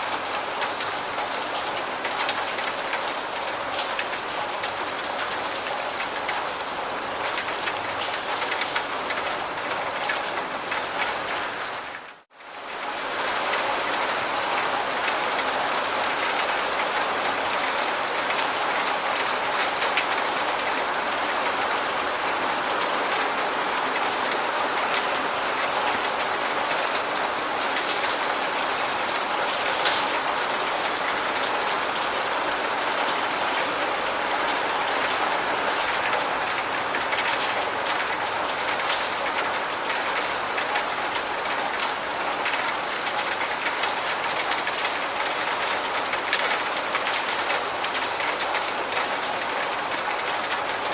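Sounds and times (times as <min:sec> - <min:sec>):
dense rain falling: 0:00.0 - 0:50.9.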